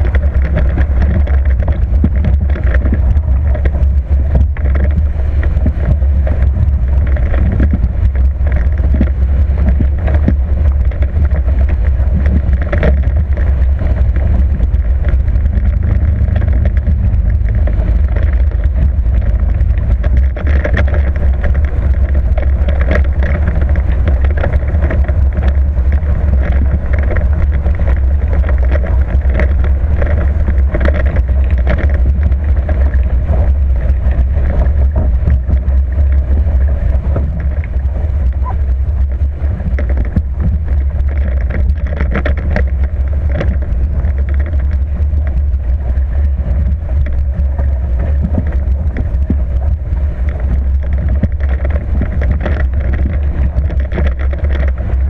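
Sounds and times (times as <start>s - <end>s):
low wind rumble on microphone: 0.0s - 55.0s
rush of water and spray: 0.0s - 55.0s
water splashes: 0.0s - 55.0s.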